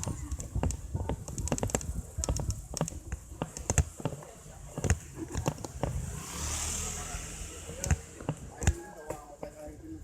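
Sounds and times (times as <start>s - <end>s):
bike knocking and rattling: 0.0s - 6.2s, 7.8s - 9.8s.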